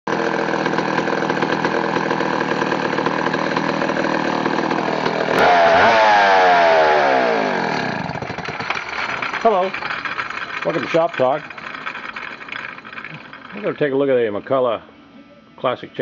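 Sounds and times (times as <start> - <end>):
chainsaw engine idling and revving: 0.1 - 14.0.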